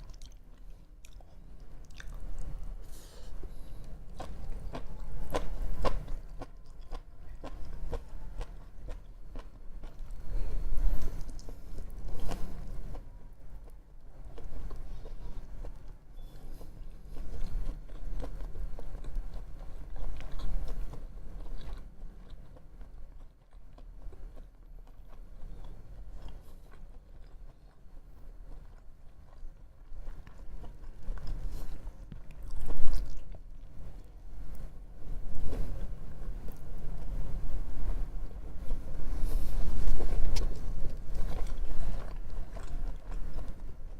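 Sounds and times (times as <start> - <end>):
chewing and biting food: 0.0 - 2.8, 3.4 - 34.7, 39.3 - 43.9.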